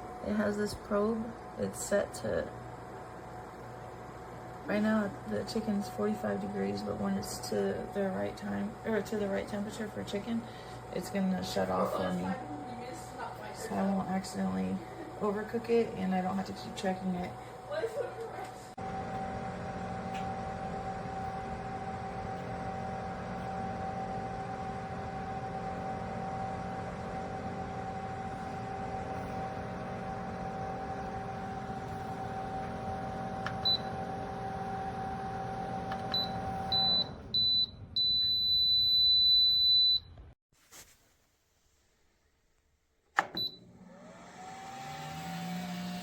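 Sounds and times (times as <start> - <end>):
air fryer fan humming: 0.0 - 39.8, 43.2 - 46.0.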